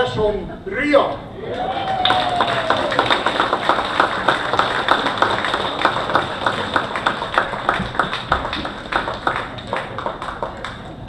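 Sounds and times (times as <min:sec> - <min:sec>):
audience applauding: 0:01.4 - 0:11.0
sharp individual claps: 0:02.1 - 0:11.0.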